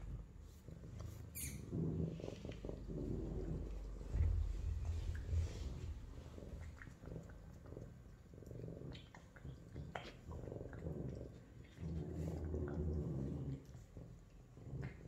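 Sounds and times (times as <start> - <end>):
cat low rumble: 0.0 - 15.0.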